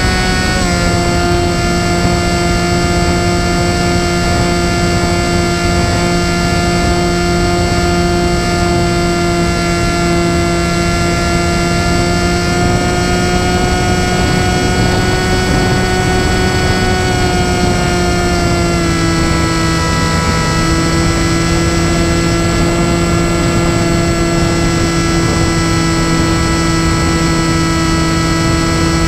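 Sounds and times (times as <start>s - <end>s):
electric motor and propeller whine: 0.0s - 29.0s
rushing wind: 0.0s - 29.0s.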